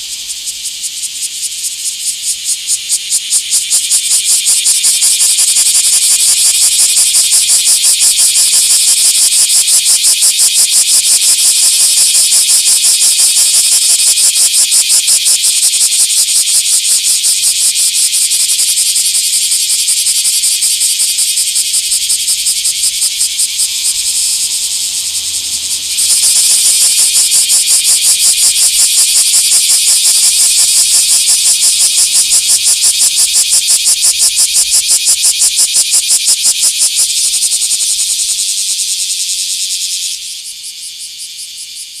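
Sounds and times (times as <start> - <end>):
cicada buzzing: 0.0 - 42.0.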